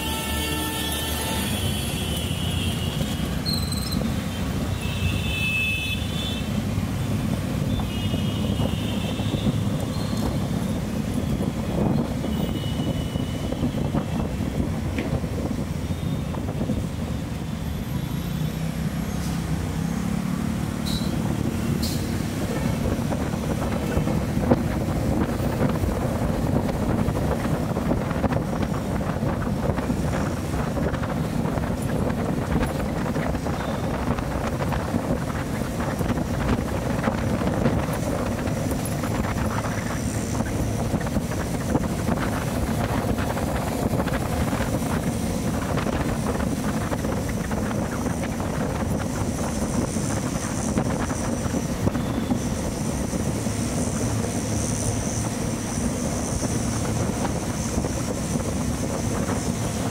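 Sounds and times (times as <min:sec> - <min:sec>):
wind noise on microphone: 0:00.0 - 0:59.9.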